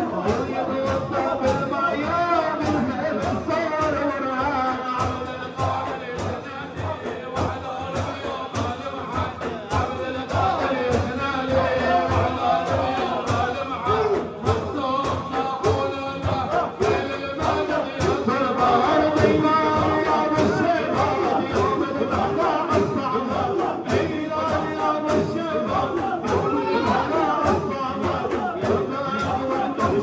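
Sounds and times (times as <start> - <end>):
steady drumbeat: 0.0 - 30.0
voices chanting together: 0.0 - 30.0.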